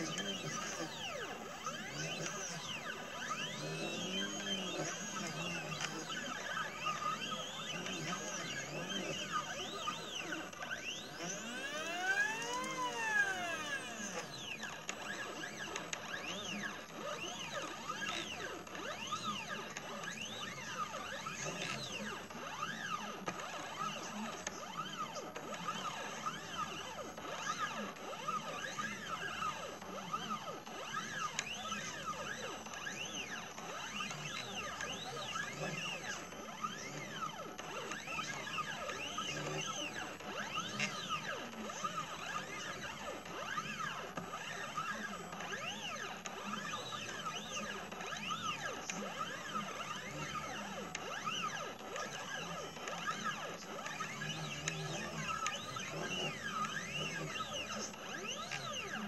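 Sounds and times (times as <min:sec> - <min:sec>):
stepper motors whining: 0:00.0 - 0:59.0.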